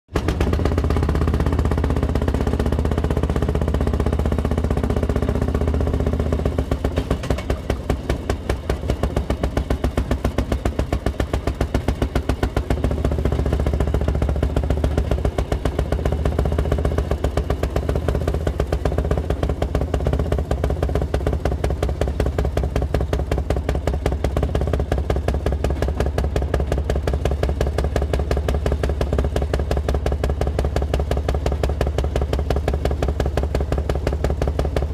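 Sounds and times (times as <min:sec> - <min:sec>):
rail speeder engine running: 0:00.2 - 0:34.9.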